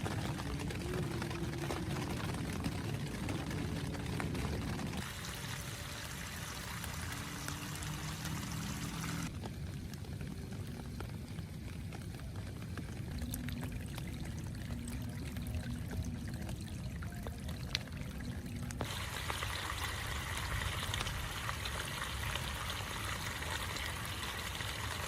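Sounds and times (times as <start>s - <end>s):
heavy rain with pouring water: 0.0s - 25.0s.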